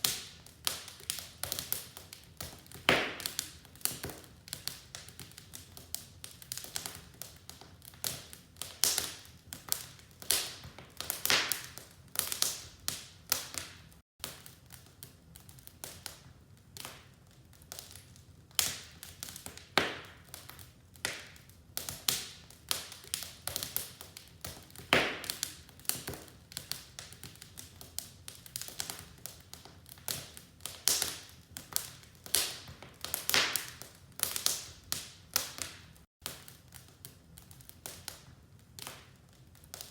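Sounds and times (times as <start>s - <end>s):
fire snaps and pops: 0.0s - 39.9s
wood fire crackling: 0.0s - 39.9s.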